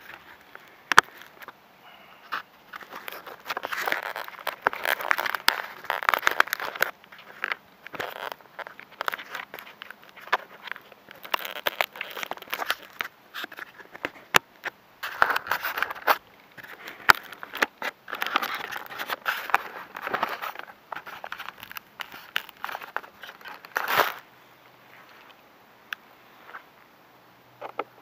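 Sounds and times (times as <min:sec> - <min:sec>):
microphone handling crackles and scrapes: 0:02.2 - 0:25.4.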